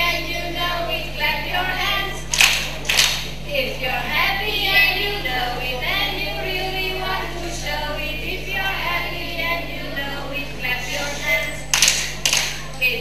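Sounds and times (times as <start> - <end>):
children singing: 0.0 - 2.4, 3.5 - 13.0
low electrical hum: 0.0 - 13.0.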